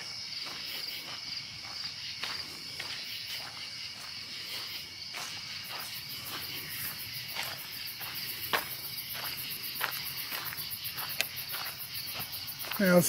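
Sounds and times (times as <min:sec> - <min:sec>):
crickets and night insects: 0:00.0 - 0:13.0
footsteps on gravel: 0:00.0 - 0:13.0.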